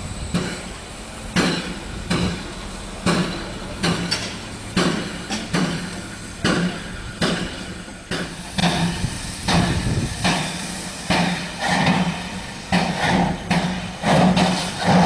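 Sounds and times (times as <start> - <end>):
steady steam hiss: 0.0 - 15.0
steam locomotive chuffing: 0.0 - 15.0.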